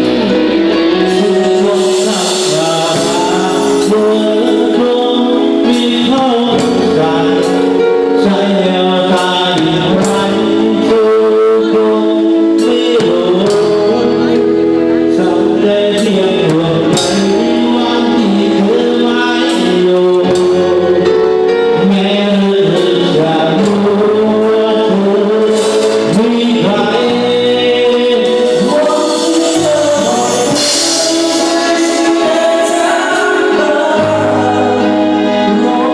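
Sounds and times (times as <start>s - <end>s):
steady drum beat: 0.0s - 14.8s, 15.4s - 21.4s, 22.6s - 35.9s
man singing: 0.0s - 35.9s
sustained accompanying instruments: 0.0s - 35.9s.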